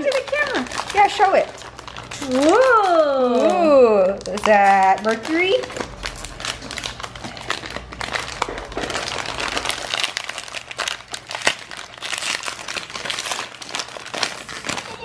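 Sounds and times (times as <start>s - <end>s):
foil packet crinkling: 0.0s - 15.0s.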